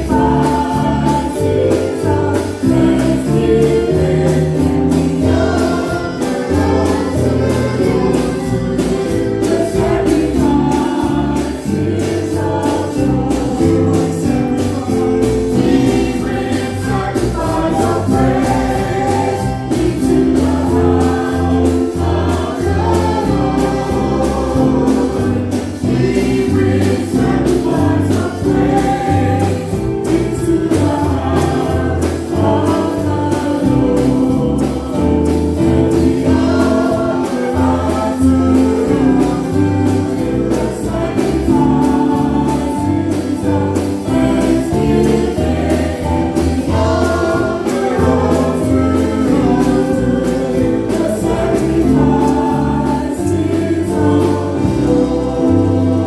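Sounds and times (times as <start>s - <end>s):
choir singing gospel: 0.0s - 56.0s
drums beating: 0.0s - 56.0s
live band: 0.0s - 56.0s.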